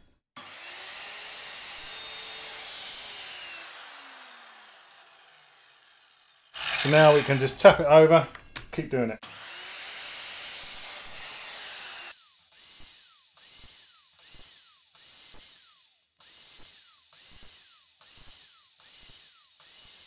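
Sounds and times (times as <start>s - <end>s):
mitre saw cutting wood: 0.4s - 8.2s, 9.2s - 20.0s.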